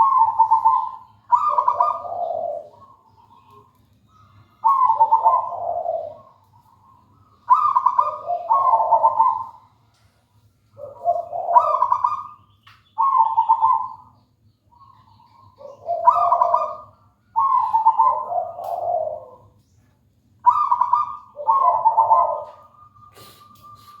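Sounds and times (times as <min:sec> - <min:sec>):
dove trilled cooing song: 0:00.0 - 0:09.9, 0:10.7 - 0:24.0.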